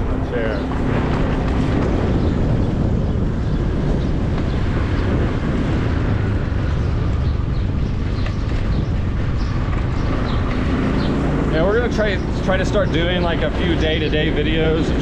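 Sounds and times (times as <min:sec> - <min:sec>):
motorbike running: 0:00.0 - 0:15.0
wind rushing over microphone: 0:00.0 - 0:15.0.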